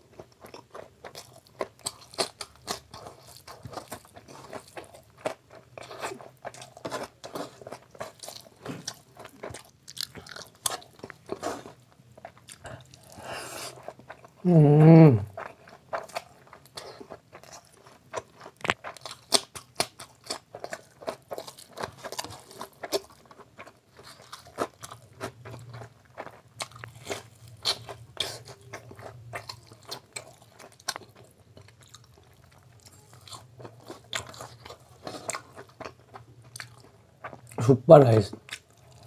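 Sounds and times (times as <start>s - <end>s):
wet chewing and lip-smacking: 0.1s - 14.4s, 15.3s - 37.6s.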